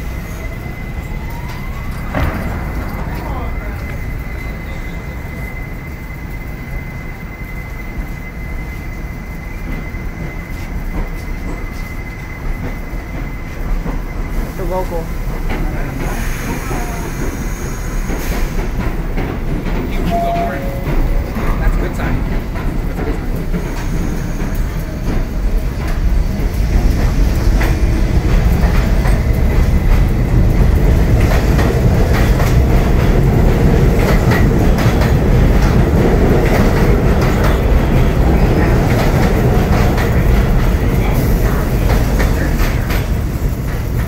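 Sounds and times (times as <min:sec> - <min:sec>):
subway train wheels clattering: 0:00.0 - 0:44.0.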